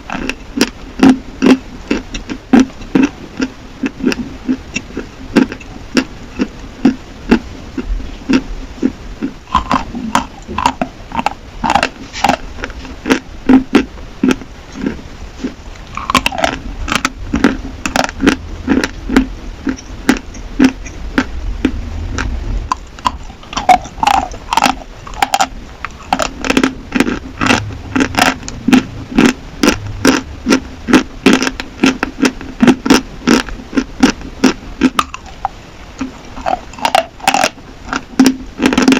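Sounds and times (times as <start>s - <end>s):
chalk crunching being chewed: 0.1s - 38.9s.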